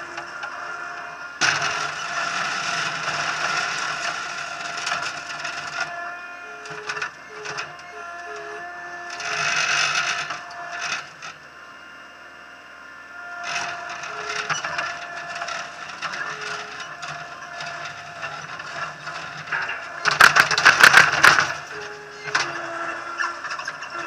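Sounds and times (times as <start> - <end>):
loader engine whine: 0.0 - 24.0.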